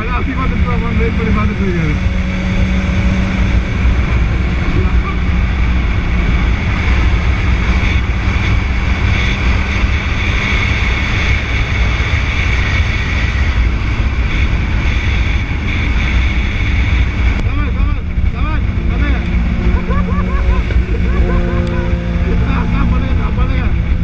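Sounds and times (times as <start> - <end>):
motorcycle engine running: 0.0 - 24.0
road noise: 0.0 - 24.0.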